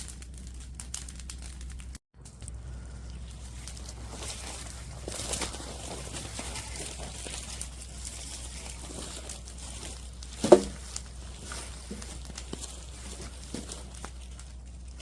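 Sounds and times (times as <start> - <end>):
brush pile crackling and popping: 0.0 - 15.0.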